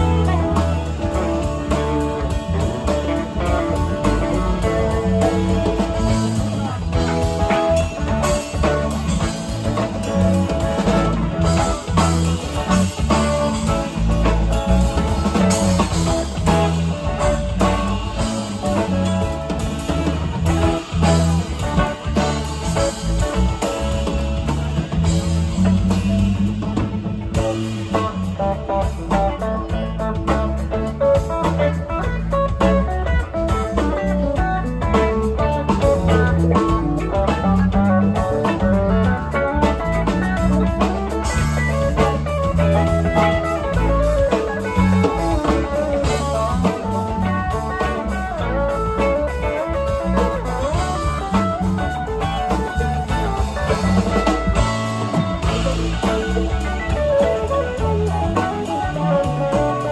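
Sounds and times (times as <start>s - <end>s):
electric guitar solo: 0.0s - 59.9s
live band playing: 0.0s - 59.9s.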